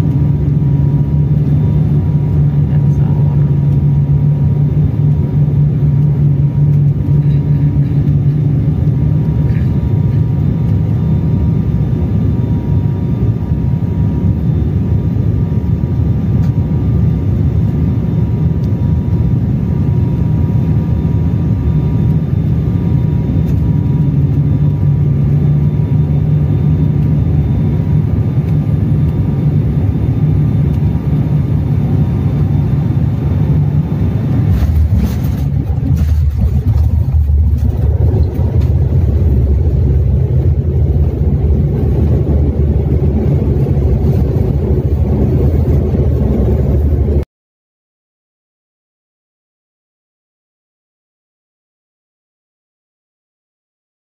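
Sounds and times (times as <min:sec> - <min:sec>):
turboprop engines droning: 0:00.0 - 0:47.2.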